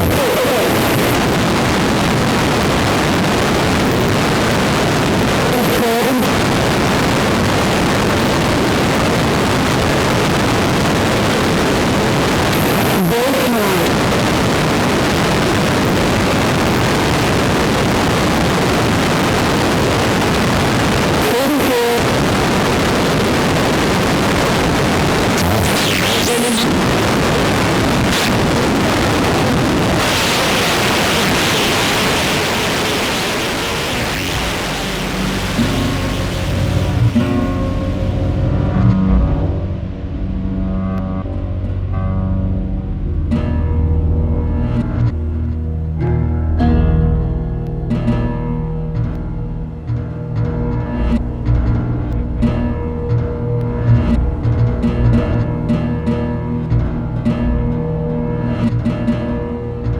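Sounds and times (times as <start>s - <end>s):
harsh noise music hiss: 0.0s - 59.9s.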